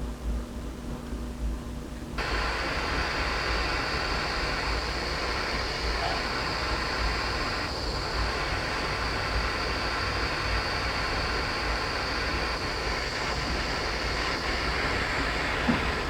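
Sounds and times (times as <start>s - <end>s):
gas torch flame hissing: 2.2s - 16.0s.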